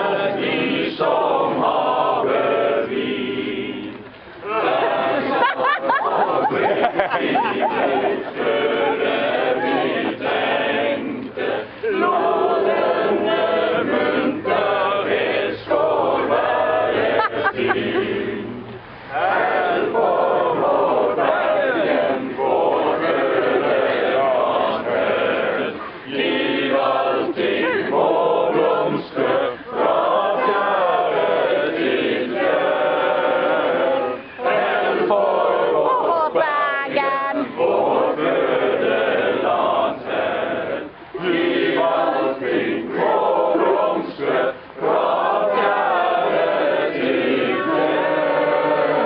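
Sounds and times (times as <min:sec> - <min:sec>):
group singing in chorus: 0:00.0 - 0:49.0.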